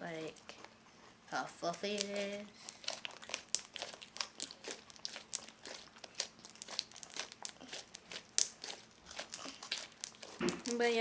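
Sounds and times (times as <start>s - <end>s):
slime clicking and crackling: 1.6s - 11.0s.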